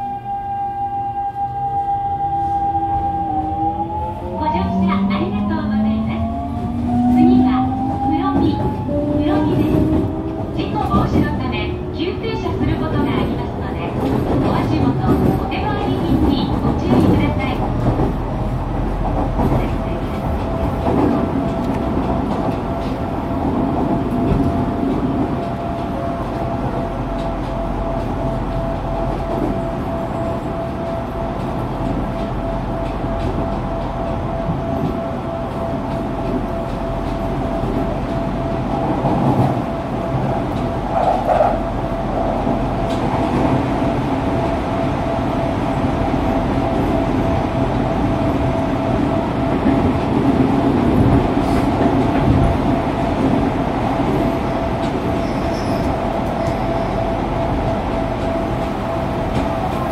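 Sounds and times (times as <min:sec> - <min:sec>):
train wheels rumbling on rail: 0:02.3 - 0:59.9.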